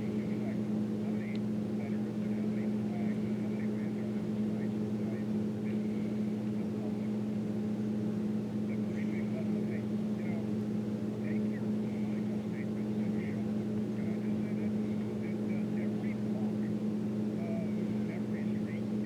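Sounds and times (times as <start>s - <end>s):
low engine-like hum: 0.0s - 19.0s.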